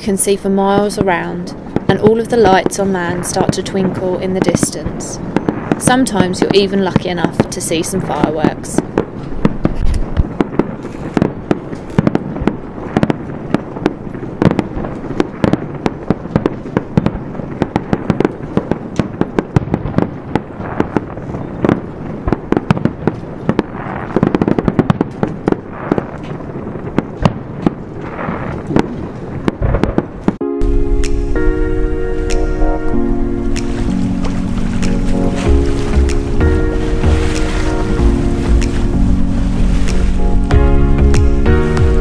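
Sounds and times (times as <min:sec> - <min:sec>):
fireworks bursting and crackling: 0:00.0 - 0:42.0.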